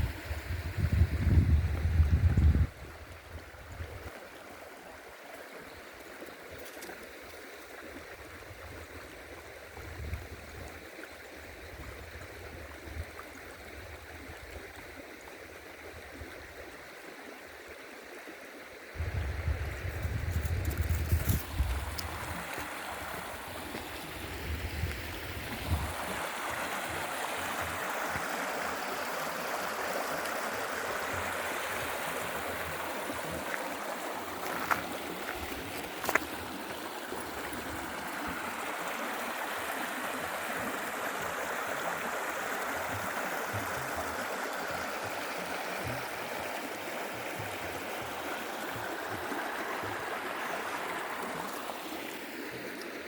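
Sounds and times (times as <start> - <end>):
stream water over rocks: 0.0 - 53.0.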